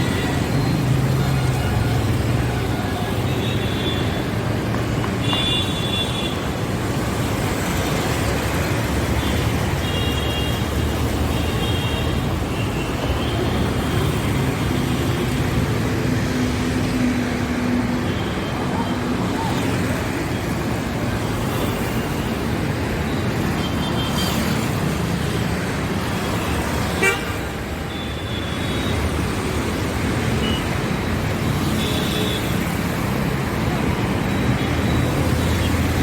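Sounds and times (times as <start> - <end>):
road traffic: 0.0 - 36.0.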